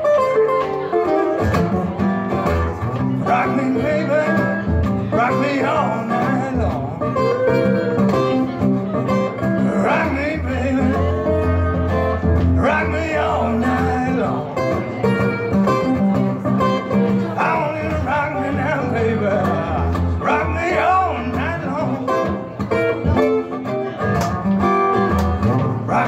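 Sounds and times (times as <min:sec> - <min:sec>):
acoustic guitar strumming blues: 0:00.0 - 0:26.0
man singing: 0:03.0 - 0:24.2, 0:25.6 - 0:26.0.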